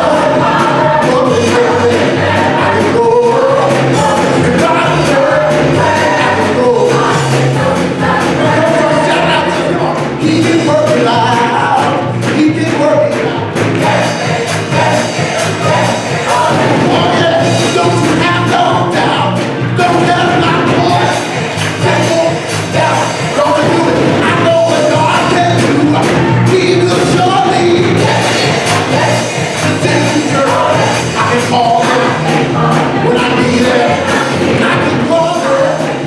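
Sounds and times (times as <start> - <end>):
band playing steady beat: 0.0 - 36.0
gospel choir singing: 0.0 - 36.0.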